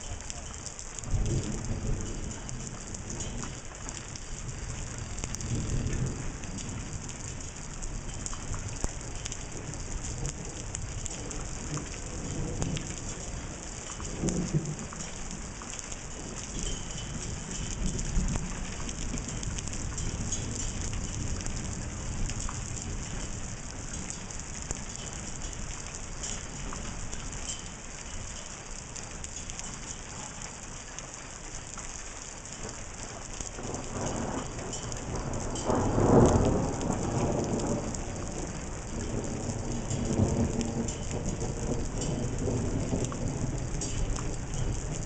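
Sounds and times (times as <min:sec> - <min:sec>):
low thunder rumble: 0:00.0 - 0:27.8, 0:32.7 - 0:45.0
rain pattering: 0:00.0 - 0:45.0.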